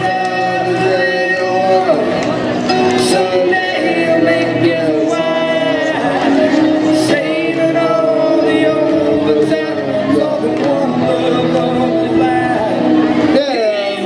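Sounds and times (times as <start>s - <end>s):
group singing: 0.0s - 14.0s
musical accompaniment: 0.0s - 14.0s.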